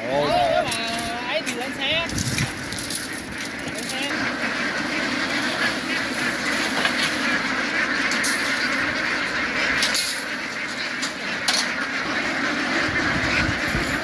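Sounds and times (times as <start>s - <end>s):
flock of ducks quacking: 0.0s - 14.0s.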